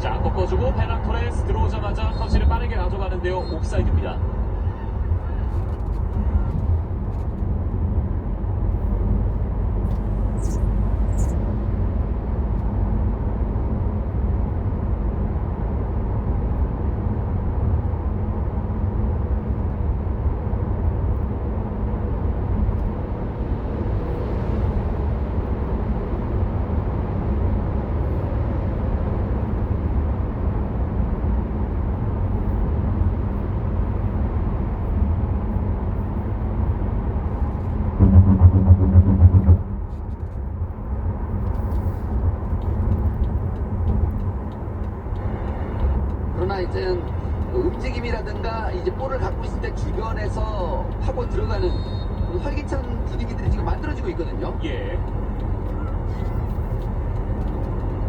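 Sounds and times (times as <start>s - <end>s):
diesel engine rumble: 0.0s - 58.0s
road and tyre noise: 0.0s - 58.0s.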